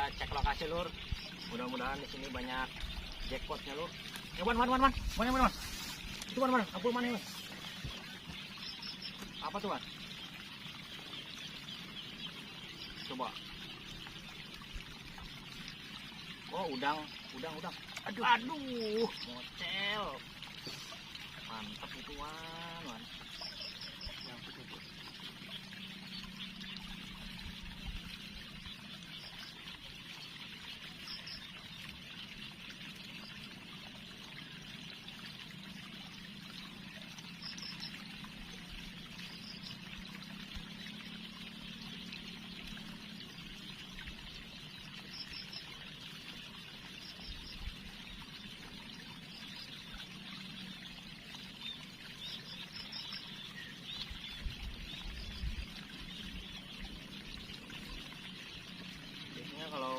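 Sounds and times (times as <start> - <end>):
running water trickling: 0.0 - 59.9.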